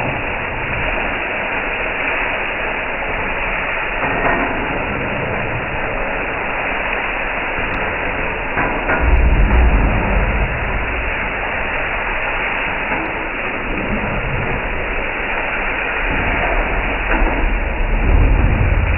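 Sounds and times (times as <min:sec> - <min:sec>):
restaurant kitchen rushing noise: 0:00.0 - 0:18.9.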